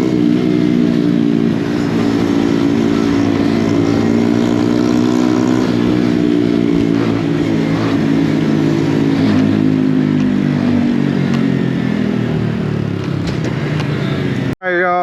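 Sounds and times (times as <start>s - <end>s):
small motorcycle engine running: 0.0s - 14.5s.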